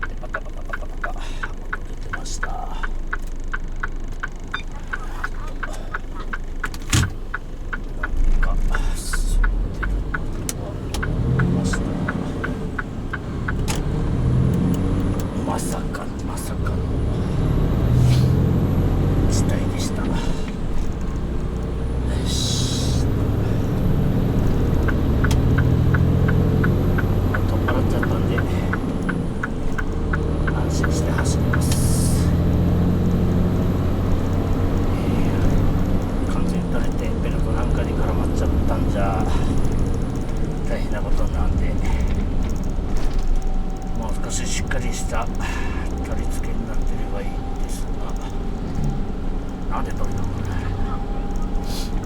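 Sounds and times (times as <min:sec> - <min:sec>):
diesel engine running: 0:00.0 - 0:52.0
even ticking: 0:00.0 - 0:52.0.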